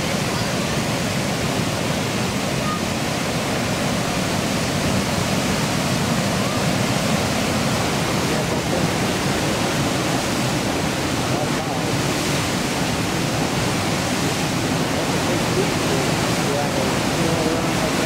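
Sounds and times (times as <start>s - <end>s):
water rushing over a dam: 0.0s - 18.0s.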